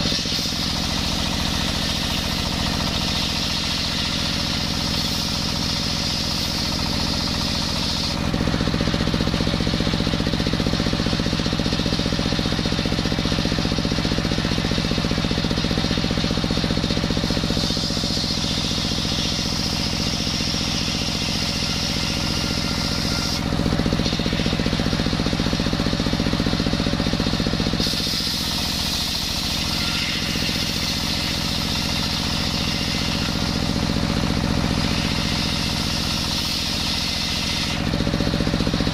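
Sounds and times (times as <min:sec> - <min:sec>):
free-running saw blade hiss: 0:00.0 - 0:12.0, 0:12.7 - 0:38.9
diesel engine running: 0:00.0 - 0:38.9
saw cutting wood: 0:00.0 - 0:38.9.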